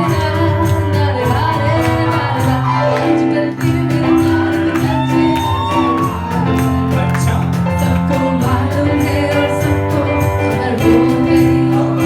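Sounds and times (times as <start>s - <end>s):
film song over loudspeakers: 0.0s - 12.0s.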